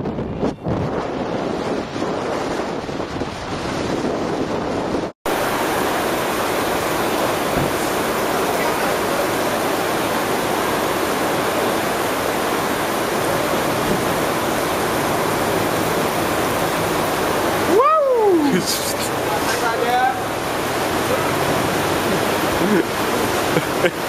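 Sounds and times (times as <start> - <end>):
wind on microphone: 0.0 - 19.4
rushing water: 0.6 - 24.0
waves washing in: 0.8 - 24.0.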